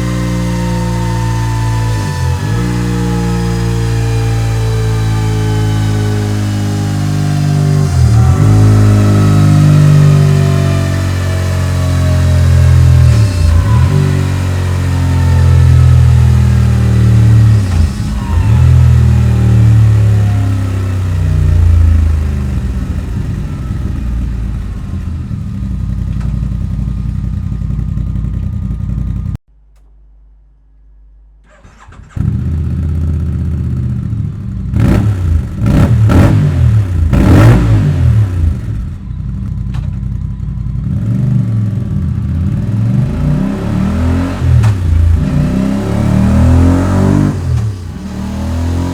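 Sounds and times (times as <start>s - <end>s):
motorcycle engine running hard: 0.0s - 29.4s, 32.2s - 48.9s.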